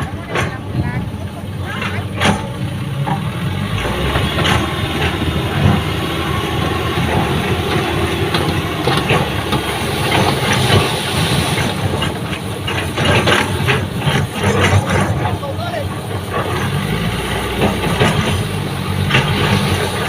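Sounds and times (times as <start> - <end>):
heavy diesel engines running: 0.0 - 20.0.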